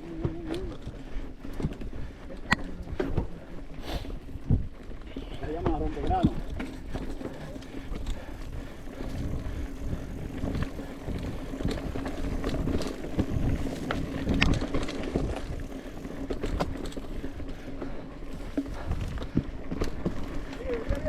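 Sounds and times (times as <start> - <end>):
bike clicks and rattles: 0.0 - 21.0
bike tyres rumbling on dirt: 0.0 - 21.0.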